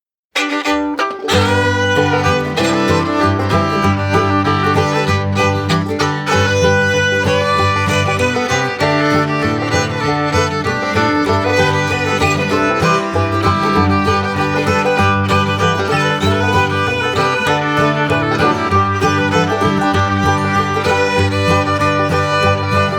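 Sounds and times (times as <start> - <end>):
bluegrass instrumental music: 0.4 - 22.9.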